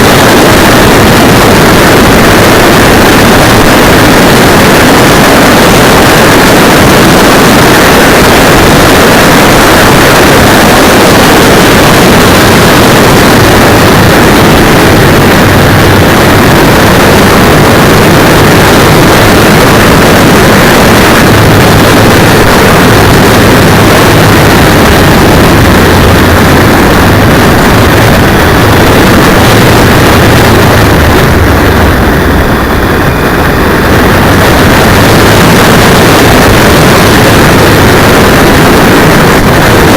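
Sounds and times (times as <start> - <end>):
motorcycle engine hum: 0.0 - 39.9
wind noise: 0.0 - 39.9.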